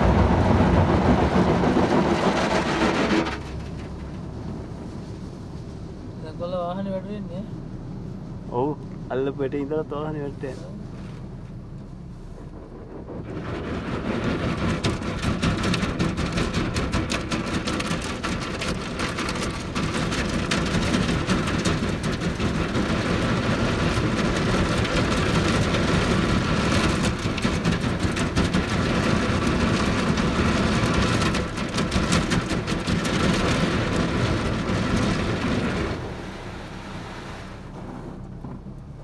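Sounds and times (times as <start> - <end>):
car wash brushes and water spray: 0.0 - 7.2, 10.1 - 39.0.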